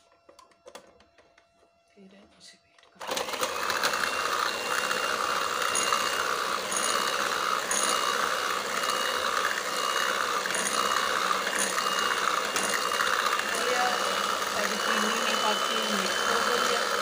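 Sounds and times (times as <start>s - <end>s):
electric hand mixer whining: 3.0s - 17.0s.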